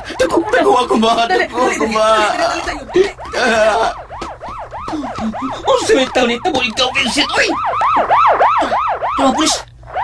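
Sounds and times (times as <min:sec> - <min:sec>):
siren yelping: 0:00.0 - 0:10.0.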